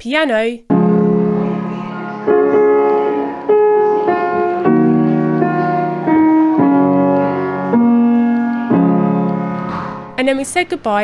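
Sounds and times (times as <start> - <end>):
piano chords: 0.6 - 10.8.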